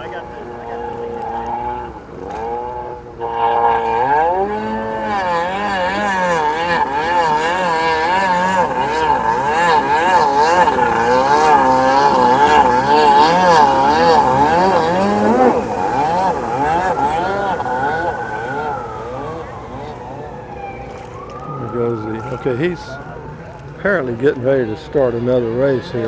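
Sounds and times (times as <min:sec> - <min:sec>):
jet ski engine wavering: 0:00.0 - 0:26.0.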